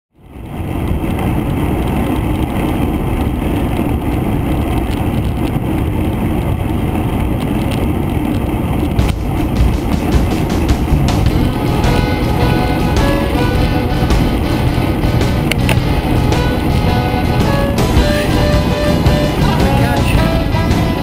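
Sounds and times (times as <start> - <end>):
wind on microphone: 0.2 - 21.0
tyre rumble on road: 0.3 - 21.0.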